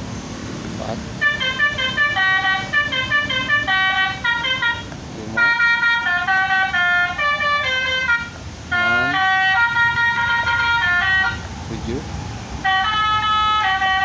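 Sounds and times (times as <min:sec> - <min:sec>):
electronic horn melody: 0:01.2 - 0:11.4, 0:12.6 - 0:14.0.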